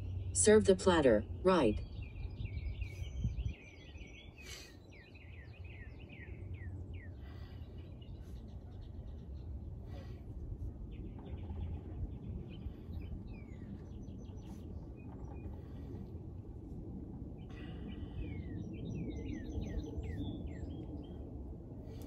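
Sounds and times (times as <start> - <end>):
songbirds chirping: 0.0 - 22.0
steady low rumble: 0.0 - 22.0.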